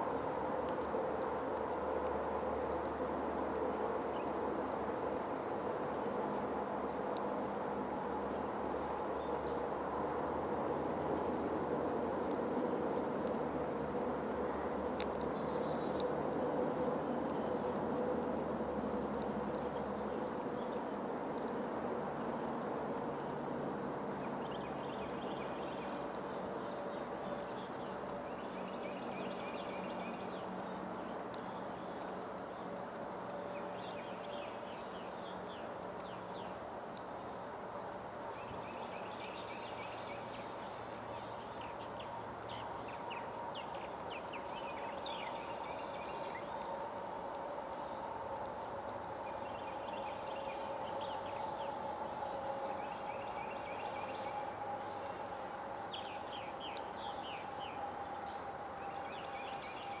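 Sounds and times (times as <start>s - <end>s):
insect chorus drone: 0.0s - 60.0s
rapid insect chirping: 0.0s - 60.0s.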